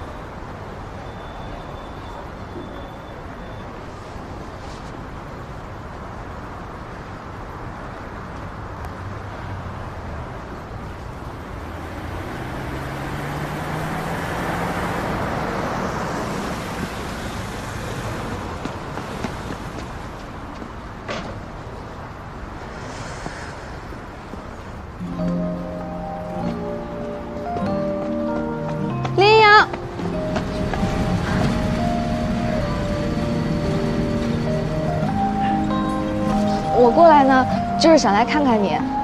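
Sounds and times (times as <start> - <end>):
street traffic noise: 0.0 - 39.0
vehicle passing: 6.2 - 39.0.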